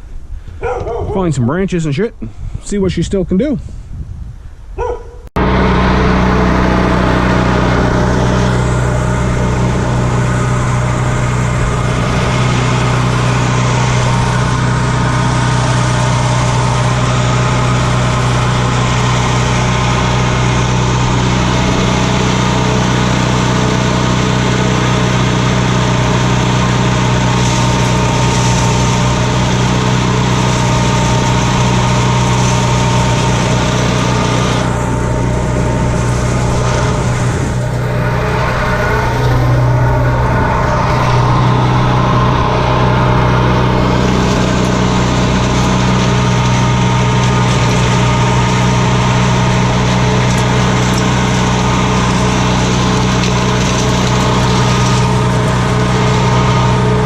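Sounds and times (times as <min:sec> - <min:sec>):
small gasoline engine running: 0:05.4 - 0:57.0.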